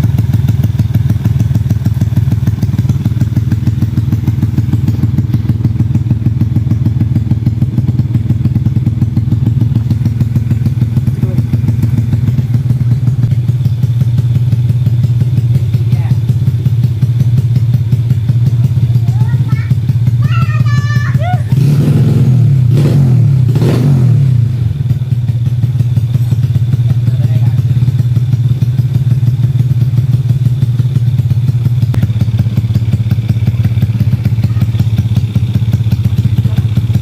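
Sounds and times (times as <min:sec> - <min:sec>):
motorcycle engine idling: 0:00.0 - 0:37.0.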